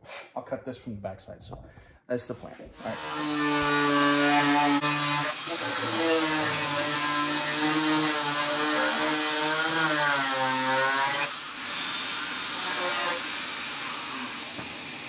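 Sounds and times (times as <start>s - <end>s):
angle grinder cutting: 2.8s - 15.0s.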